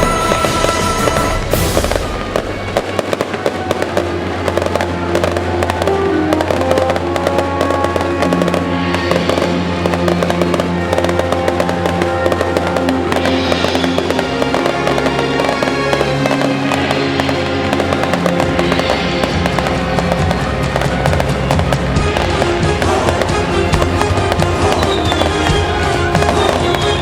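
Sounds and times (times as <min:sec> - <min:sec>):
fireworks crackling: 0:00.0 - 0:27.0
music with held notes: 0:00.0 - 0:27.0.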